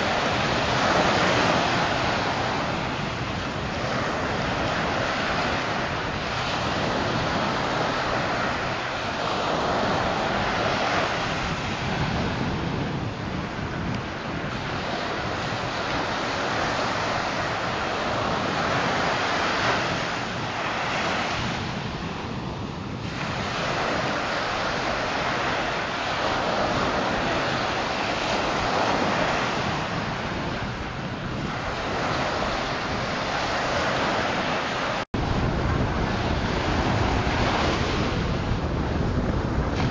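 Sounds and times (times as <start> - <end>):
surf washing onto beach: 0.0 - 39.9
wind blowing across microphone: 0.0 - 39.9.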